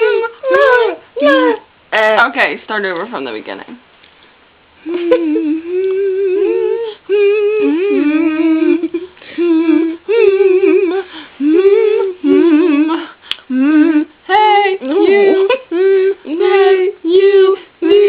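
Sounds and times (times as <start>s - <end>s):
girl singing wordless notes: 0.0s - 1.9s, 4.8s - 18.0s.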